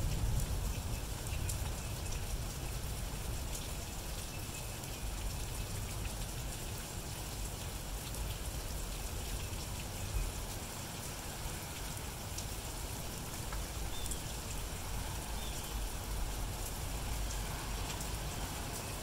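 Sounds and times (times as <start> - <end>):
rain falling on grass and pavement: 0.0 - 19.0.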